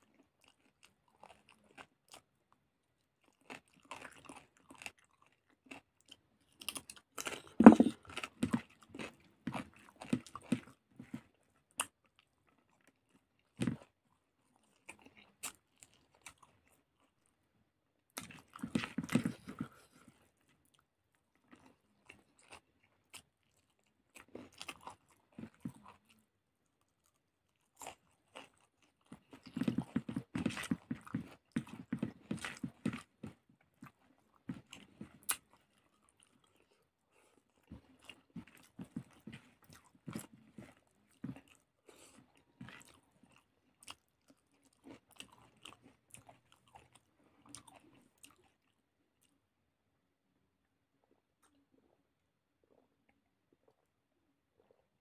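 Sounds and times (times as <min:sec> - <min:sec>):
person chewing food: 0:00.0 - 0:49.5, 0:51.0 - 0:55.0.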